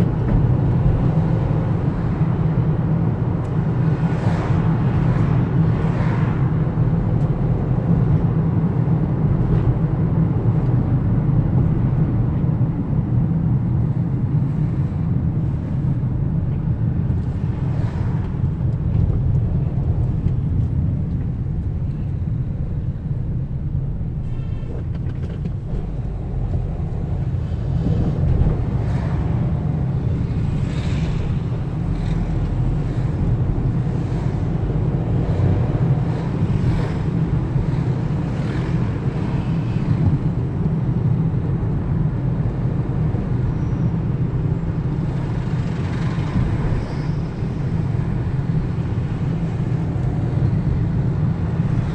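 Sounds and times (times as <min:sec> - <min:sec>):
car travelling on road: 0:00.0 - 0:51.9.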